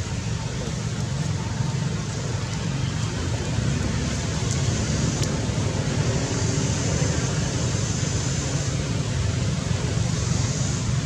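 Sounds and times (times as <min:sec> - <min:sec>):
even hiss: 0:00.0 - 0:11.0.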